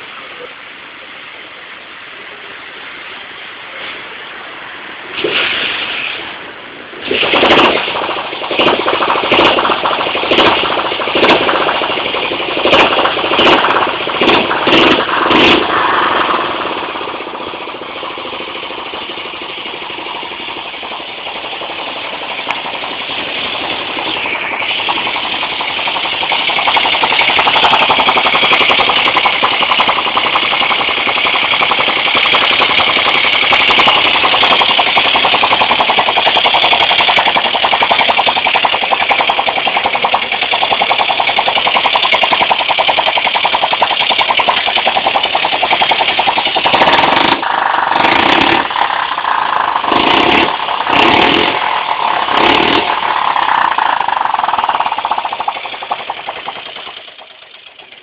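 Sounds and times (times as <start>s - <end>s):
small motorcycle engine running: 7.0s - 58.0s.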